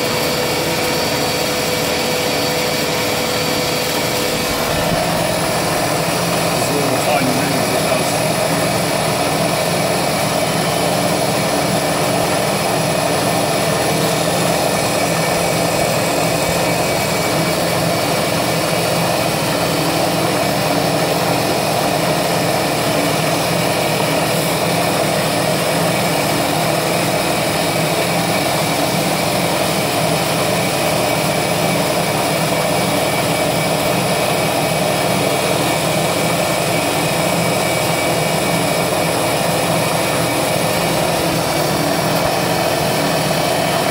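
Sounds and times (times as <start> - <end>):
milling machine cutting metal: 0.0 - 43.9.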